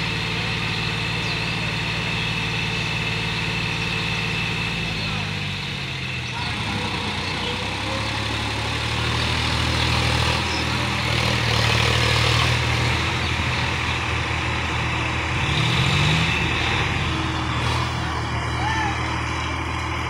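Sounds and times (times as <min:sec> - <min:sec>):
engine revving: 0:00.0 - 0:20.0
tractor engines droning: 0:00.0 - 0:20.0.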